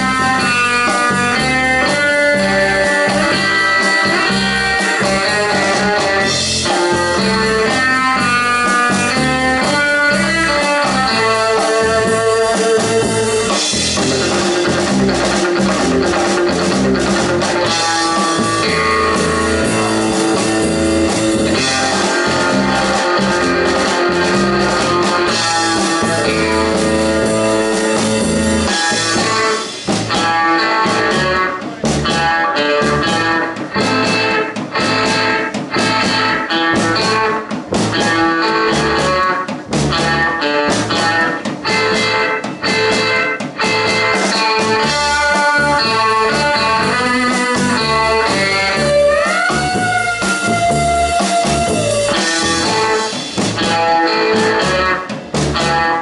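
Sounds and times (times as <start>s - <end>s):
electric lead guitar: 0.0s - 56.0s
rock band playing: 0.0s - 56.0s.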